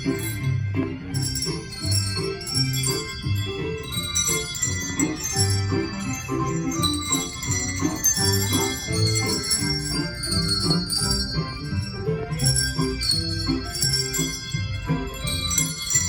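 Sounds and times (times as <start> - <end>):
hand bell choir playing: 0.0 - 16.0.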